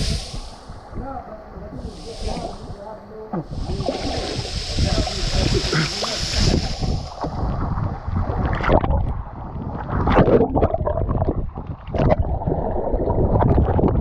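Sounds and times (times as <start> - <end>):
water sloshing and gurgling: 0.6 - 14.0.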